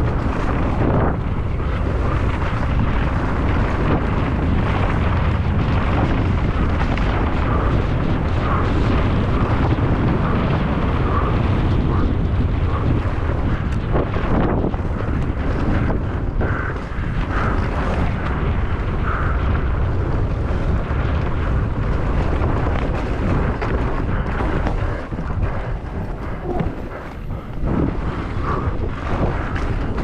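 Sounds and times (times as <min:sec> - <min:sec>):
mountain bike rumble and rattle: 0:00.0 - 0:30.0
wind buffeting microphone: 0:00.0 - 0:30.0.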